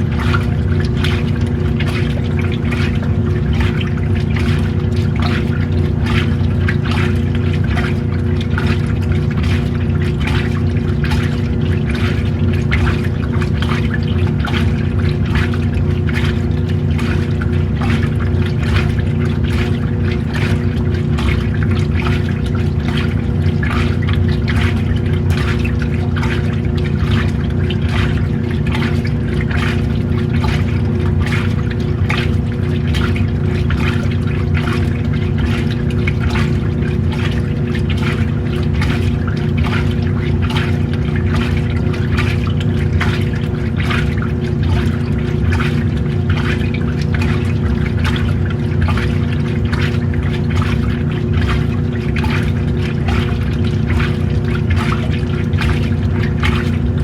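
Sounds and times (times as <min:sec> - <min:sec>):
washing machine motor hum: 0:00.0 - 0:57.0
water sloshing and splashing: 0:00.0 - 0:57.0.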